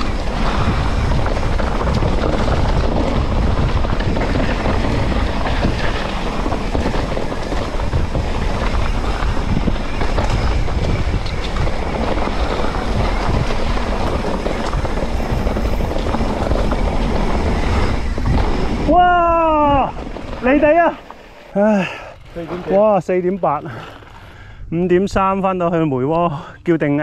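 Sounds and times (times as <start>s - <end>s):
mountain bike rolling and rattling: 0.0s - 26.3s
wind buffeting microphone: 0.0s - 27.0s.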